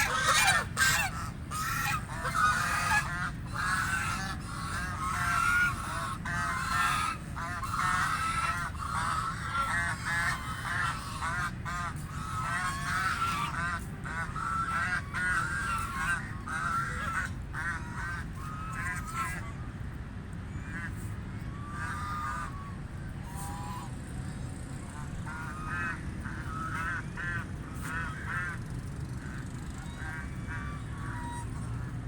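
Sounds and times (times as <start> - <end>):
geese honking: 0.0 - 19.5, 21.6 - 23.9, 25.0 - 32.0
low background rumble: 0.0 - 32.0.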